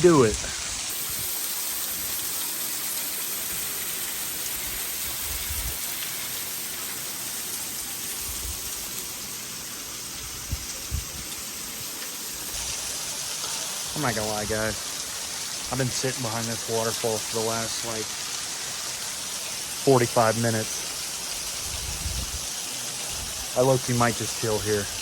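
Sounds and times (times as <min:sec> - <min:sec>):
waterfall hissing: 0:00.0 - 0:25.0.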